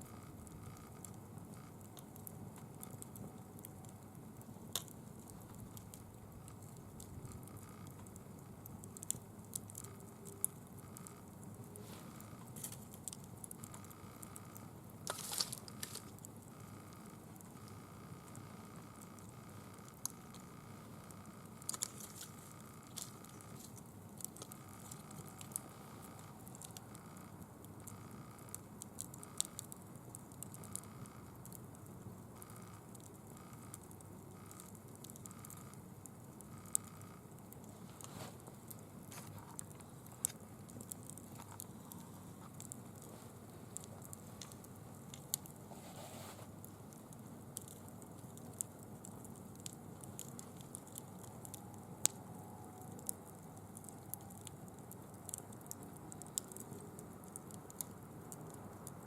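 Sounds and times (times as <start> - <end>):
bonfire crackling and popping: 0.0 - 59.0
fire hissing: 0.6 - 31.6, 32.8 - 52.4.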